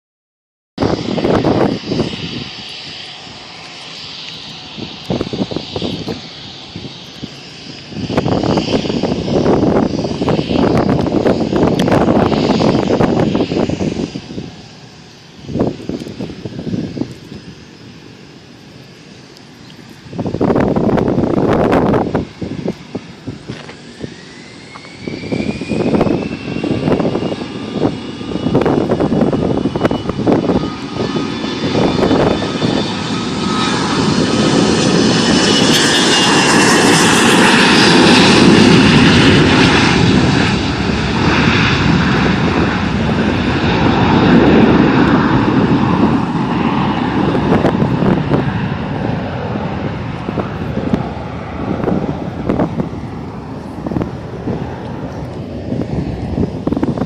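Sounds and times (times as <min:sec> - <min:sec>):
high turbine whine: 0:00.8 - 0:57.0
jet turbine engines roaring: 0:00.8 - 0:57.0
wind buffeting microphone: 0:00.8 - 0:57.0.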